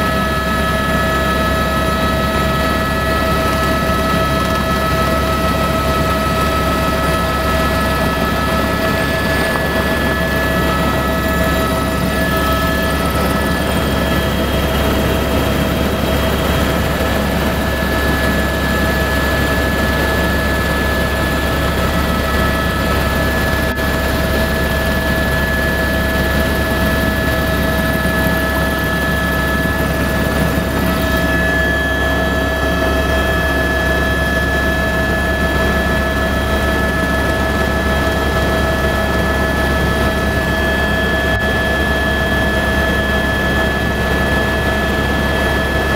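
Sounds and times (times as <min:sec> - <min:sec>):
helicopter rotor drone: 0:00.0 - 0:45.9
high turbine whine: 0:00.0 - 0:45.9.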